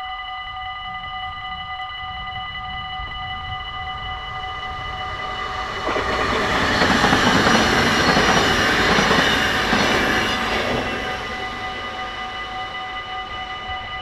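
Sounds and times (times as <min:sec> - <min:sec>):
crossing warning bell ringing: 0:00.0 - 0:14.0
train wheel and rail noise: 0:00.2 - 0:14.0.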